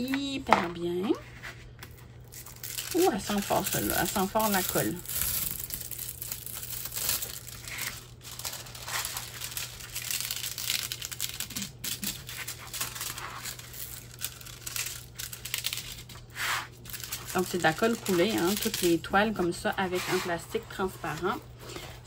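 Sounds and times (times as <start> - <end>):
plastic film crinkling: 1.0 - 22.0.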